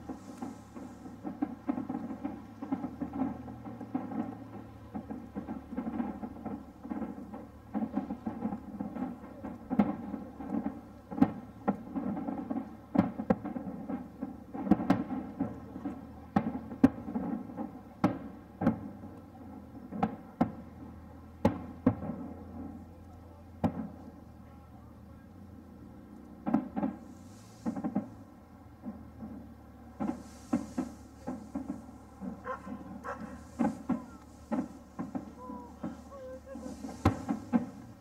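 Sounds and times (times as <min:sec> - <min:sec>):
distant fireworks booming: 0:00.0 - 0:38.0
low rumble of bursts: 0:00.0 - 0:38.0.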